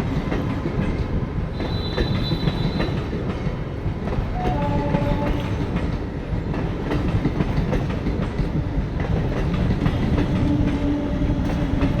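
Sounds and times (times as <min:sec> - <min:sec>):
train rumbling: 0:00.0 - 0:12.0
wheels clicking over rail joints: 0:00.0 - 0:12.0.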